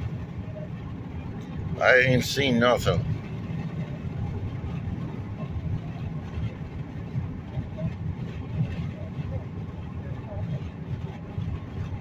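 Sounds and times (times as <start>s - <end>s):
car road noise inside cabin: 0.0s - 12.0s.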